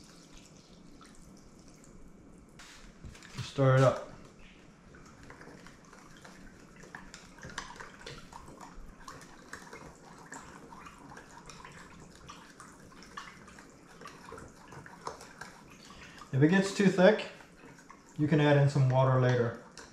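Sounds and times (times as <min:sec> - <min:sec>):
liquid sloshing: 0:00.0 - 0:19.9.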